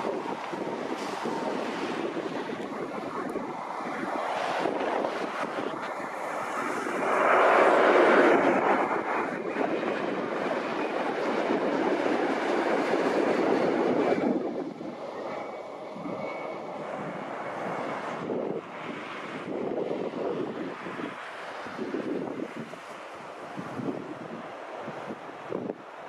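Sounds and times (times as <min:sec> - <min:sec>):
faint turbine whine: 0:00.0 - 0:26.0
jet engine rumble: 0:00.0 - 0:26.0.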